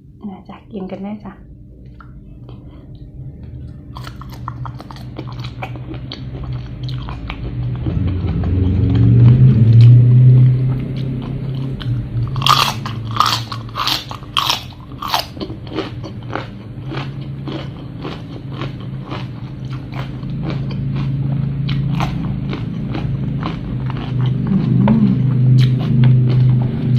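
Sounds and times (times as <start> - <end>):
low hum: 0.0 - 26.9
person chewing crunchy food: 1.8 - 26.9.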